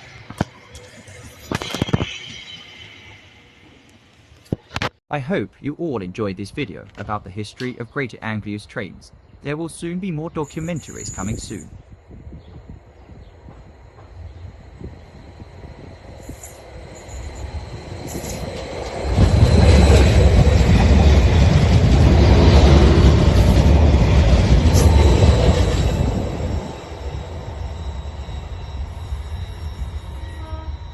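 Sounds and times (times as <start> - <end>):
train passing close by: 0.0 - 4.4, 10.4 - 30.9.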